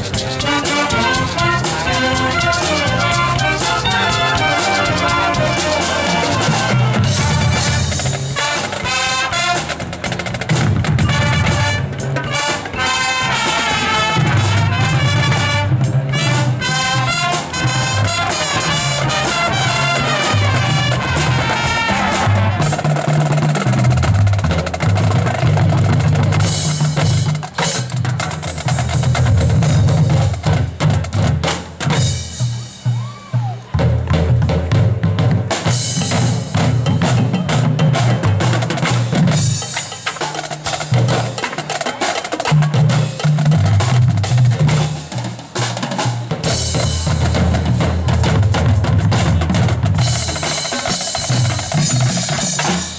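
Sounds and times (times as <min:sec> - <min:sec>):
brass melody: 0:00.0 - 0:32.5, 0:35.1 - 0:52.9
marching drumline: 0:00.0 - 0:52.9.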